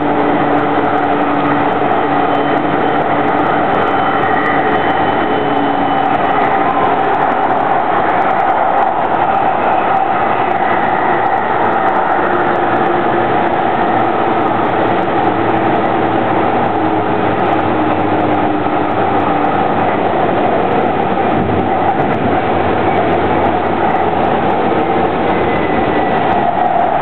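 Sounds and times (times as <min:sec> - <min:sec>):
faint whining tones: 0:00.0 - 0:27.0
train wheels rumbling on track: 0:00.0 - 0:27.0.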